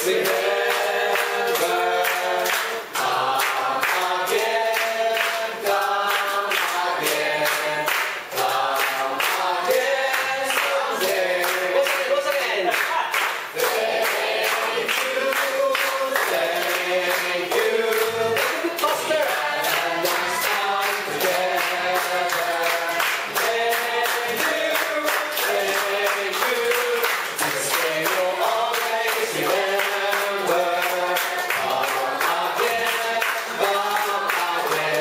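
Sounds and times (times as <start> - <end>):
choir singing: 0.0 - 12.2, 13.5 - 35.0.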